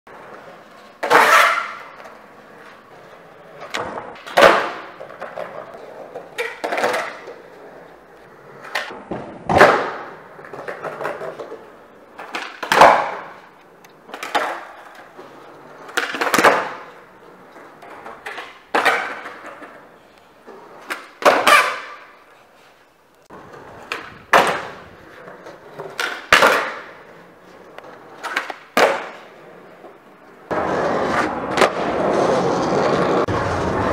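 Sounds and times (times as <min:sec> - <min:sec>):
skateboard slapping down: 0:00.1 - 0:02.7, 0:03.5 - 0:07.8, 0:08.6 - 0:19.9, 0:20.5 - 0:22.1, 0:23.3 - 0:33.9
skateboard tail popping: 0:00.1 - 0:22.3, 0:23.3 - 0:33.9
skateboard wheels rolling: 0:00.1 - 0:33.9.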